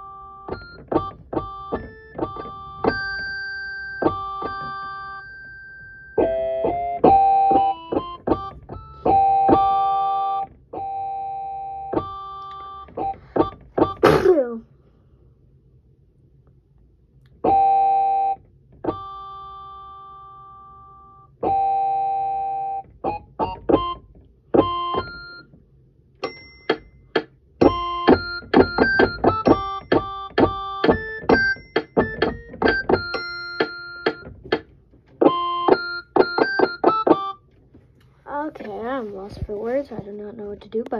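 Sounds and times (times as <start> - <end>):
electric keyboard plucked notes: 0.0 - 14.3, 17.4 - 25.5, 26.2 - 37.5.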